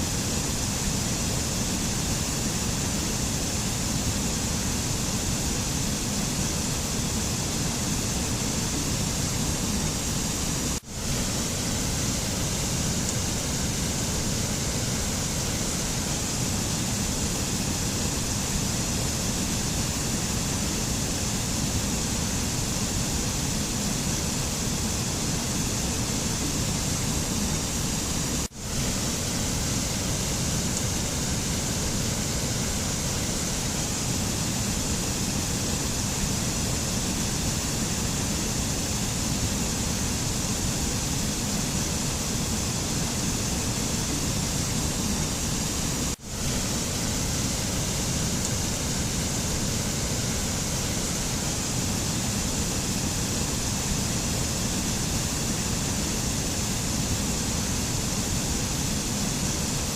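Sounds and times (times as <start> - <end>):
mountain nature rushing noise: 0.0 - 59.9.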